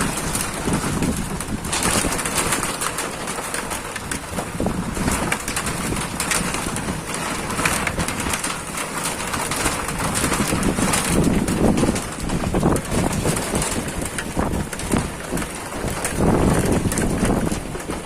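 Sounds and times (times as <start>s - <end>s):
heavy rain falling: 0.0s - 18.0s
wind rumbling on microphone: 0.0s - 18.0s.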